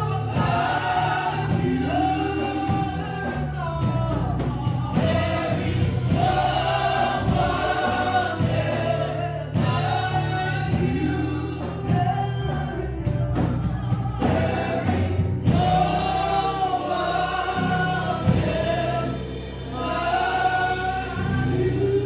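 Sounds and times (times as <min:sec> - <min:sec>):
choir singing held notes: 0:00.0 - 0:22.0
instrumental accompaniment: 0:00.0 - 0:22.0
low bass: 0:00.0 - 0:22.0.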